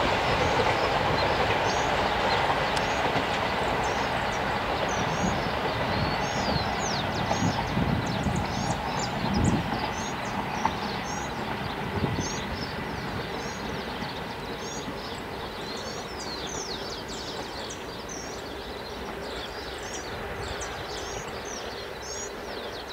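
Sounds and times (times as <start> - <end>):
passenger train rumble: 0.0 - 22.9
small birds chirping: 0.3 - 22.9.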